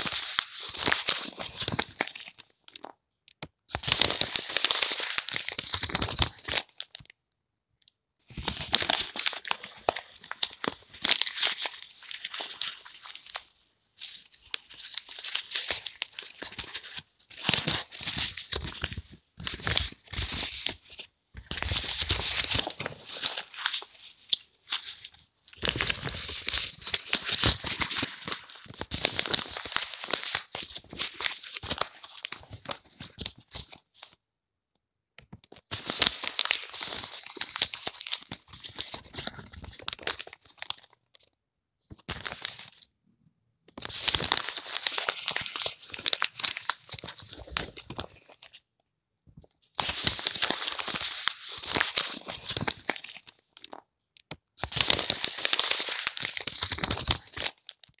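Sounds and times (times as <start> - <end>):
paper crumpled by hand: 0.0 - 3.0, 3.7 - 7.1, 8.3 - 34.2, 35.5 - 41.0, 42.0 - 42.9, 43.8 - 48.6, 49.8 - 53.9, 54.6 - 58.0.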